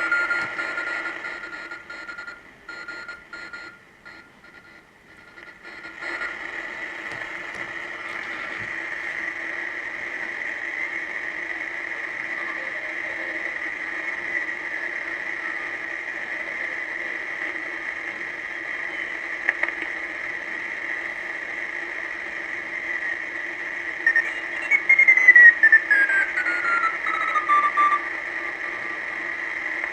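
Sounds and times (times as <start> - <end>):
radio static hiss: 0.0 - 29.9.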